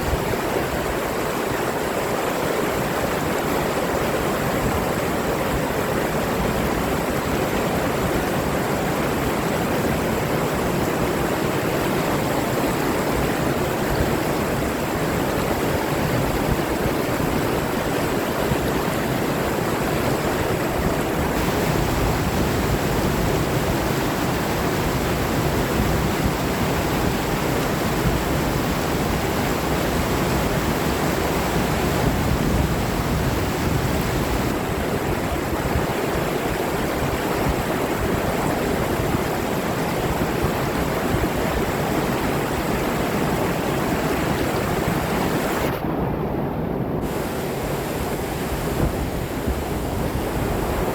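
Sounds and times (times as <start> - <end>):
rushing water: 0.0 - 50.9
wind: 0.0 - 50.9.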